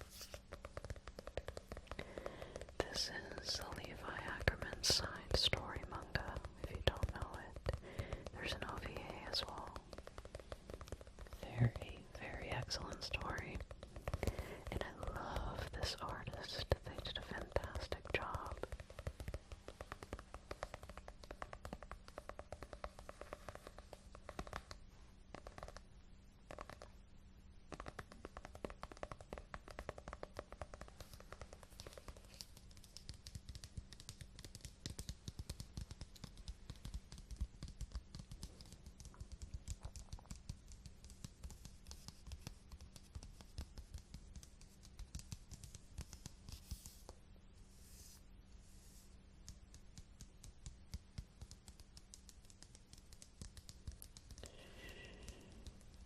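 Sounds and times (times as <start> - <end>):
fingers tapping on a book: 0.0 - 25.9, 26.5 - 27.0, 27.7 - 47.2, 47.8 - 56.0.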